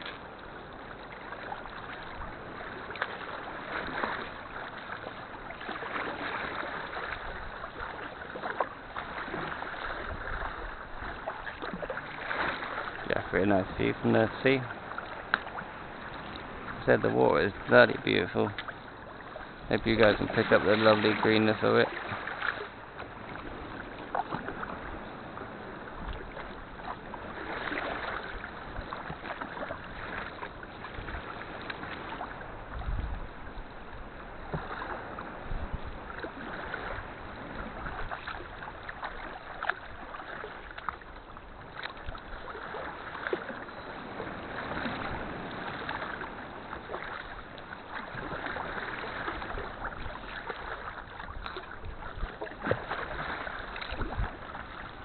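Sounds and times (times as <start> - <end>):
paddle splashing in water: 0.0 - 55.0
water lapping along hull: 0.0 - 55.0.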